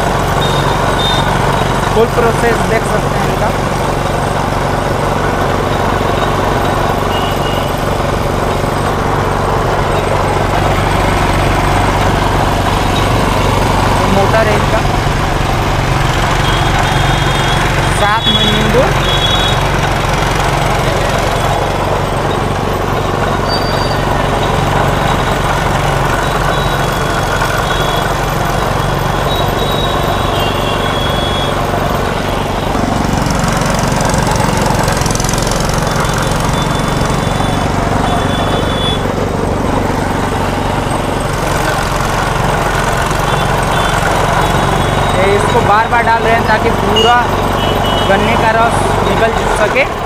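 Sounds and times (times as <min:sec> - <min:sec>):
sugarcane crusher humming: 0:00.0 - 0:50.0.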